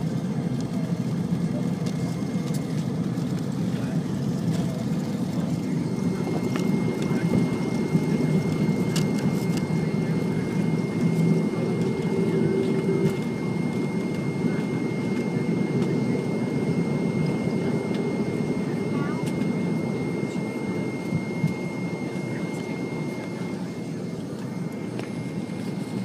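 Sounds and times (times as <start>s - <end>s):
airliner cabin engine rumble: 0.0s - 26.0s
thin high engine whine: 0.0s - 26.0s.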